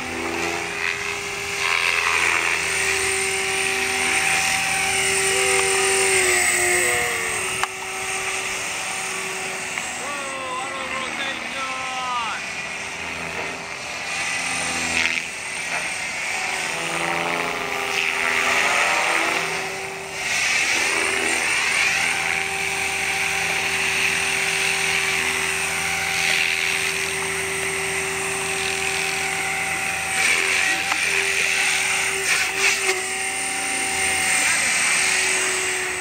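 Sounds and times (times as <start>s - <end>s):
rc helicopter motor and rotor whine: 0.0s - 36.0s.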